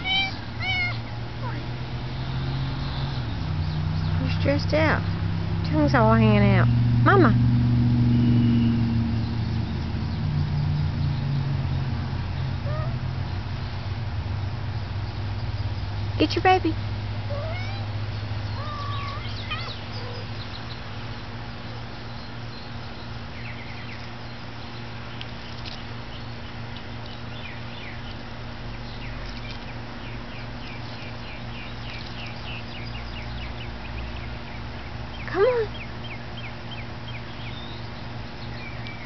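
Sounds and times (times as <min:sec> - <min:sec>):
birds chirping: 0:00.0 - 0:39.0
steady low hum: 0:00.0 - 0:39.0.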